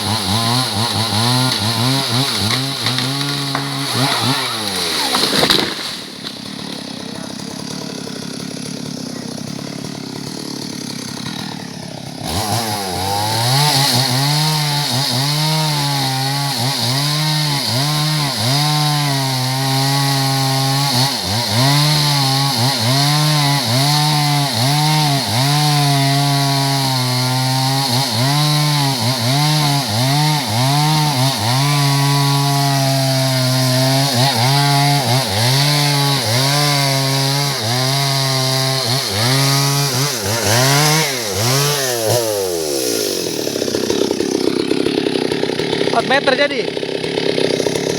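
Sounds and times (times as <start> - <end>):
chainsaw cutting through log: 0.0 - 47.9.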